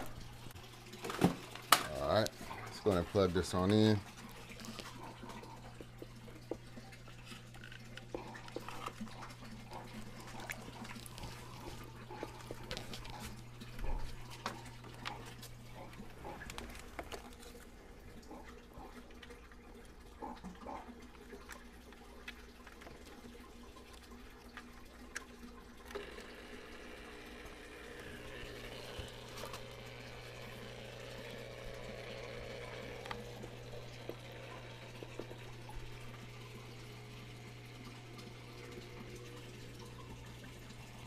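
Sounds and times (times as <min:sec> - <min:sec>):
water pump humming: 0:00.0 - 0:41.0
water splashing and trickling: 0:00.0 - 0:41.0.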